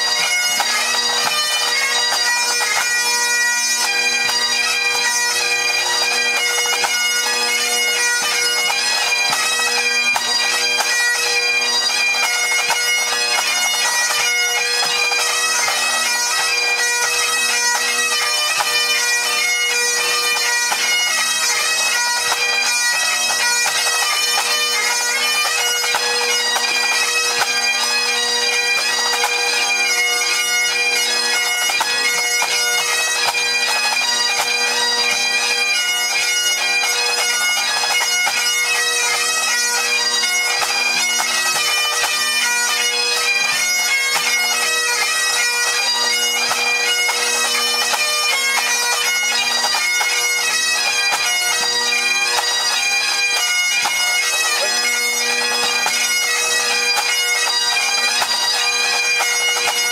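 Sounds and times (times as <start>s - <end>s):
bagpipes playing: 0.0s - 59.9s.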